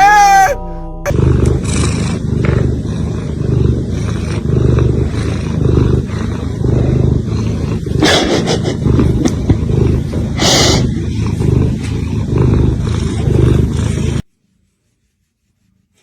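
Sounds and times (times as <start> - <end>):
scratchy noise: 0.0 - 14.2
cat purring loudly: 0.0 - 14.3.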